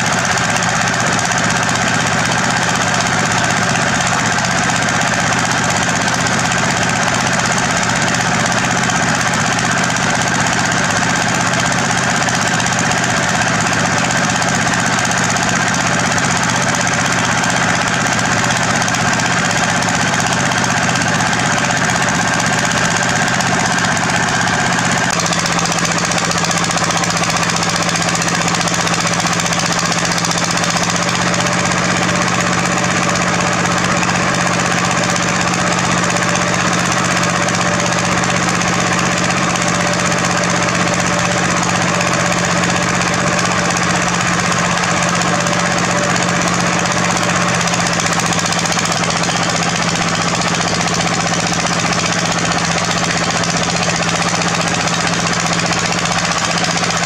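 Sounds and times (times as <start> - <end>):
diesel engine running under load: 0.0 - 57.0
rapid mechanical rattle: 0.0 - 57.0.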